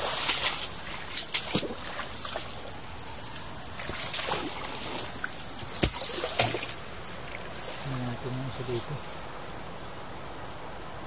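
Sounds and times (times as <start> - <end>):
water sloshing around wading person: 0.0 - 9.3
leaves rustling: 0.0 - 11.0.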